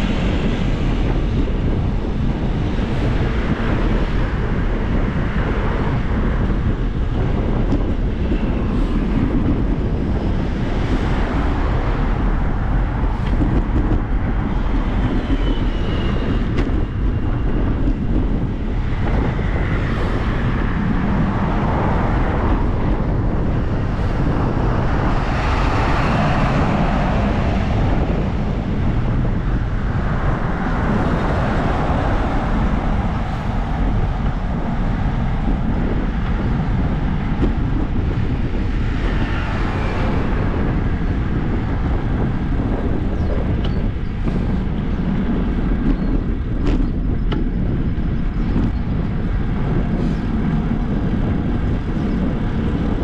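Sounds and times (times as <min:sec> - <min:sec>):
road noise: 0:00.0 - 0:53.0
wind rushing over microphone: 0:00.0 - 0:53.0.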